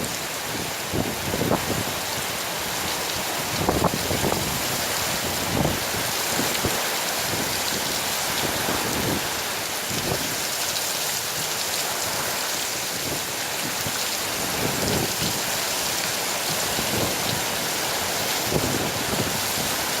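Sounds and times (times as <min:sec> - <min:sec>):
heavy rain hissing: 0:00.0 - 0:20.0
wind gusts: 0:00.0 - 0:20.0.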